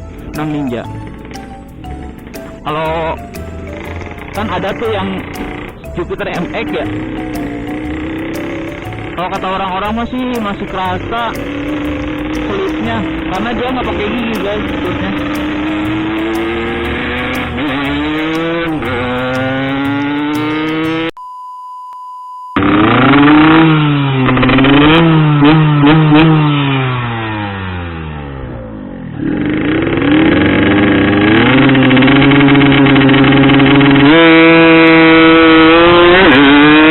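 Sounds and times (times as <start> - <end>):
two-stroke motorcycle accelerating: 0.0 - 21.2, 22.6 - 36.9.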